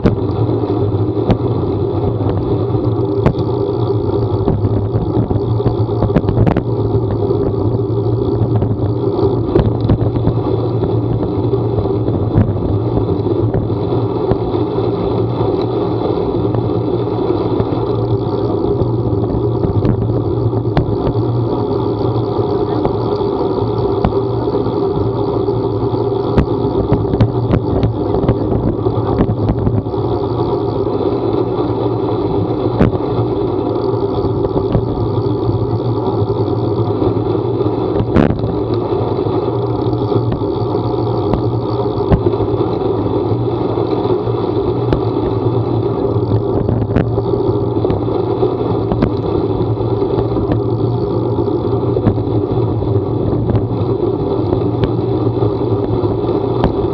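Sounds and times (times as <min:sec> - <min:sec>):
vehicle engine and road noise: 0:00.0 - 0:56.9.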